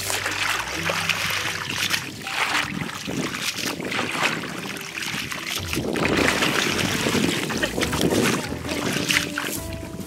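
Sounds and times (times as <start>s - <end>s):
basket splashing in muddy water: 0.0s - 10.0s.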